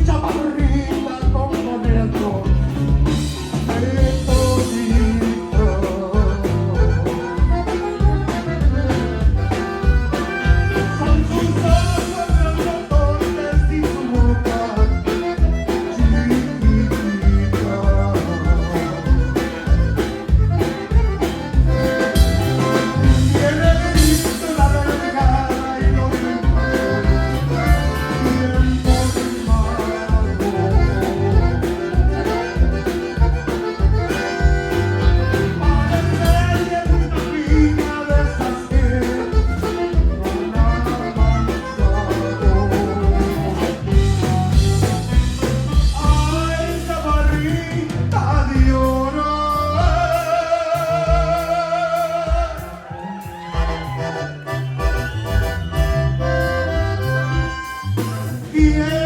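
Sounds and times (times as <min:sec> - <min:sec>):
live band music: 0:00.0 - 0:59.0.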